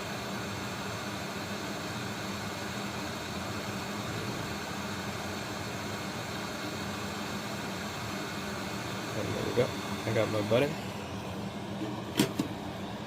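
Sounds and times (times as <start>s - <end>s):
hot air station hissing: 0.0s - 13.0s.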